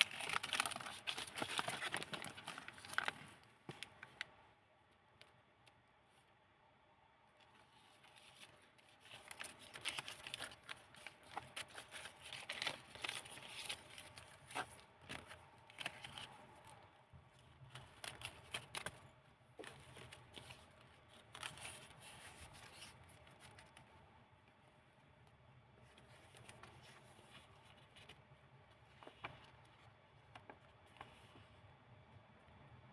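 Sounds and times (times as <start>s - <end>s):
paper pages rustling: 0.0s - 4.3s, 7.4s - 23.9s, 25.8s - 31.5s.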